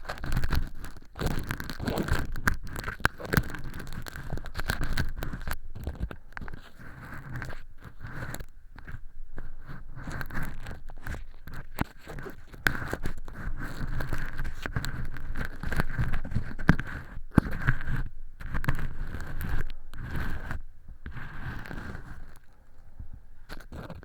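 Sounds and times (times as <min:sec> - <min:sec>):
earpick scratching and crackling: 0:00.0 - 0:24.0.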